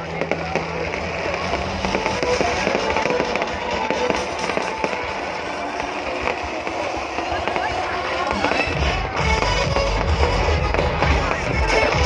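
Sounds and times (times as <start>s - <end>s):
fireworks bursting and crackling: 0.0s - 12.0s
loud music: 0.0s - 12.0s.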